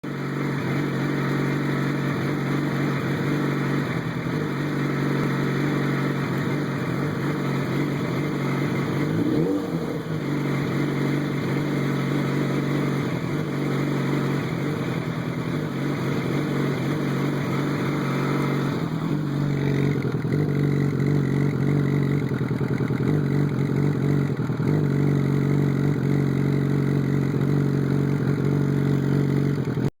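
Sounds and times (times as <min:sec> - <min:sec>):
motorcycle engine sputtering: 0:00.0 - 0:29.9.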